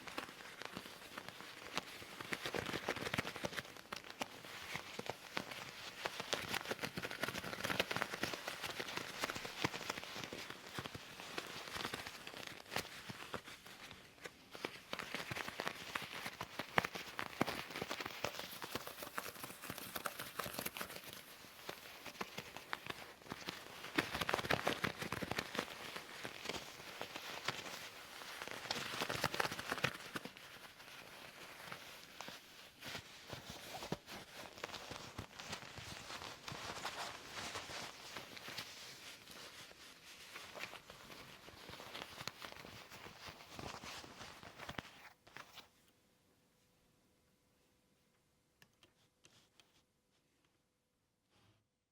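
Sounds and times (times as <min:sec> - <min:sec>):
leather gloves rubbing and crinkling: 0:00.0 - 0:45.7.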